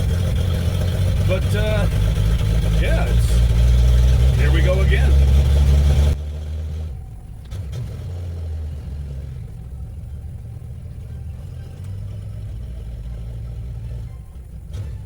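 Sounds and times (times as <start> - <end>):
car engine rumbling inside cabin: 0.0 - 15.0.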